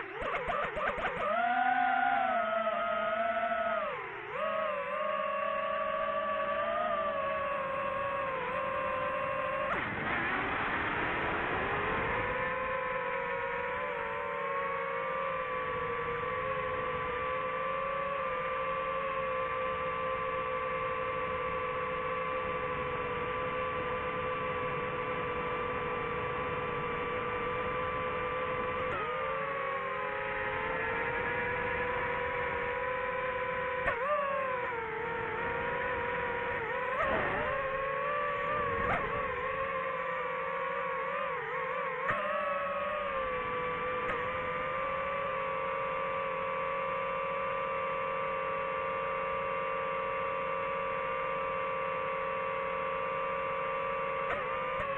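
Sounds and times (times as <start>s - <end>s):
drone propellers whining: 0.0s - 54.9s.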